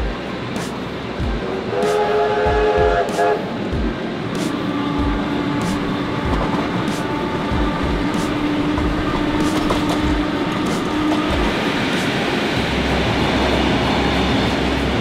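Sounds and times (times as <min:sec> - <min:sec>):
wheels rumbling on rails: 0:00.0 - 0:15.0.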